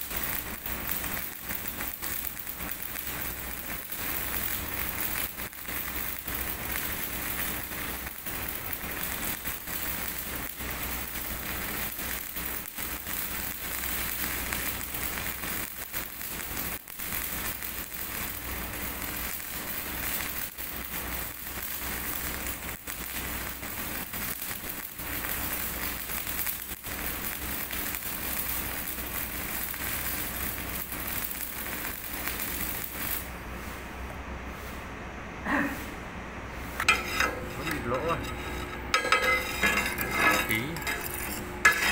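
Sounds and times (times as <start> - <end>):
welding arc crackling: 0.0 - 33.8, 36.6 - 41.9.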